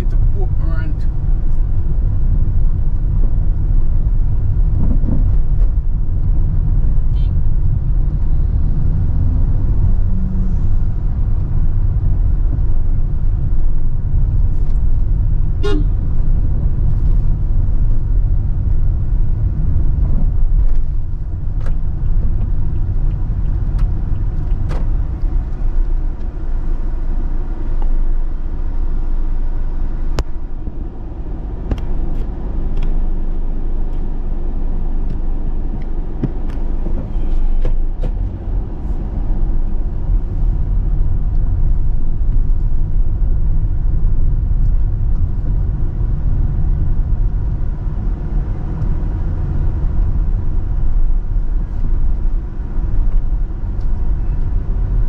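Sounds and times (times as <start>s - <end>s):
engine and tyre rumble: 0.0s - 55.0s.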